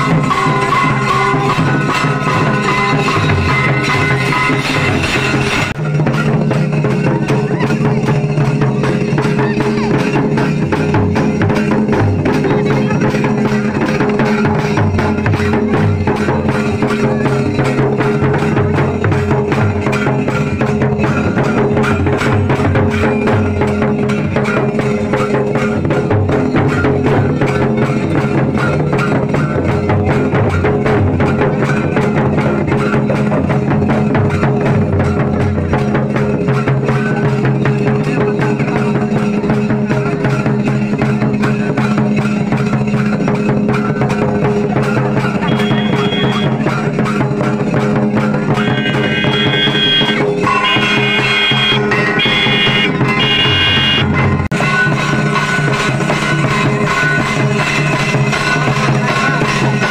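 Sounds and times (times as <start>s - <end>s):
hand drums beating fast rhythm: 0.0s - 59.9s.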